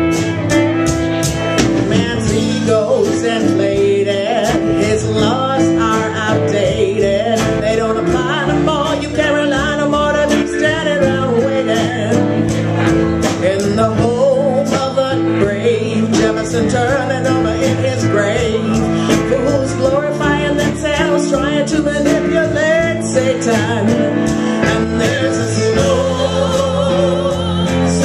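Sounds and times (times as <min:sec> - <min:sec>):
strummed guitar: 0:00.0 - 0:28.0
wavering melodic lead line: 0:00.0 - 0:28.0.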